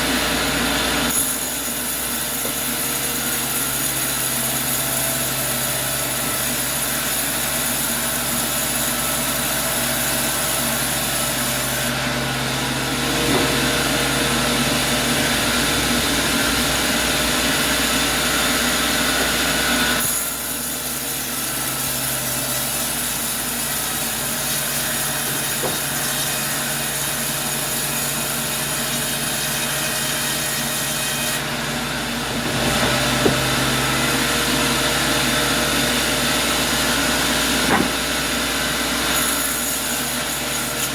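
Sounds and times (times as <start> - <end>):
saw cutting wood: 0.0 - 40.9.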